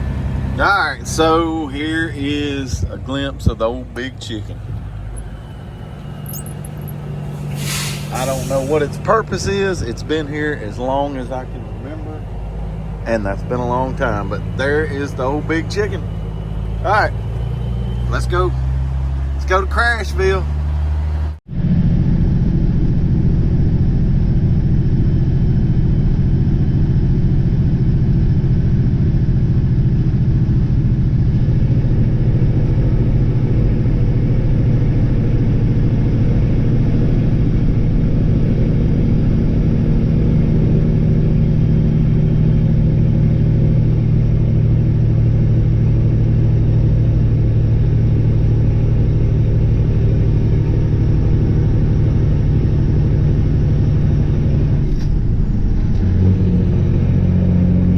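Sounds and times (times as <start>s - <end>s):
truck diesel engine running: 0.0s - 57.9s.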